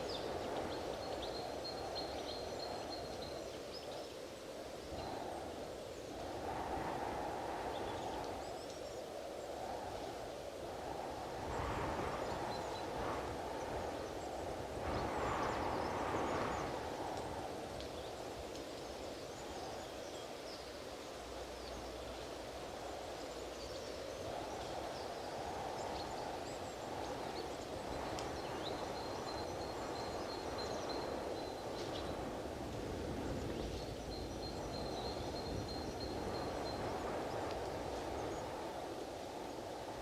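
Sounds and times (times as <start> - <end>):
strong wind through trees: 0.0 - 40.0.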